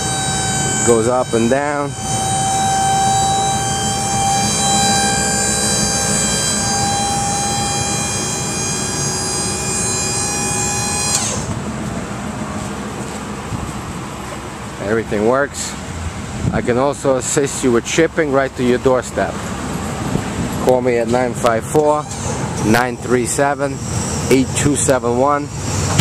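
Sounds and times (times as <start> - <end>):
hydraulic pump motor whining: 0.0 - 14.6, 19.4 - 26.0
truck engine idling: 0.0 - 26.0.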